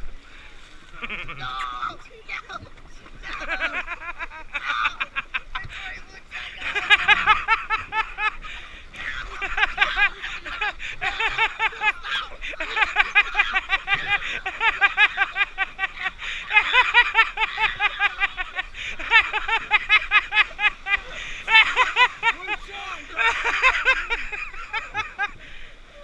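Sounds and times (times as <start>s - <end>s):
people laughing rapidly: 1.0s - 1.9s, 3.2s - 25.4s.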